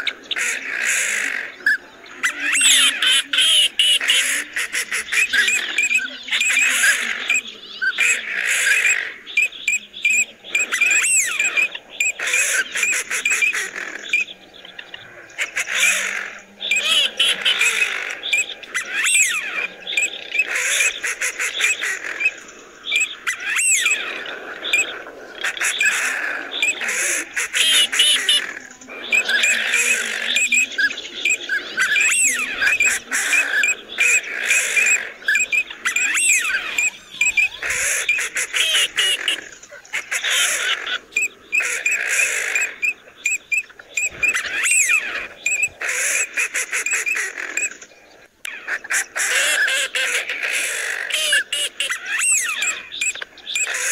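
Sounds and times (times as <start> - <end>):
birds whistling calls: 0.0 - 53.9.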